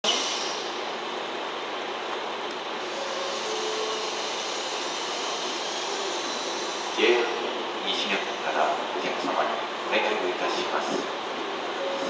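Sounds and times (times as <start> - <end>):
rail yard background noise: 0.0 - 12.0.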